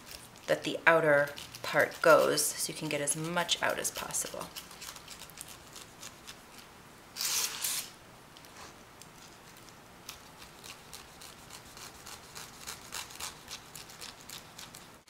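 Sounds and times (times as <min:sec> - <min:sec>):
knife scraping pineapple flesh: 0:00.0 - 0:07.9, 0:09.2 - 0:14.9.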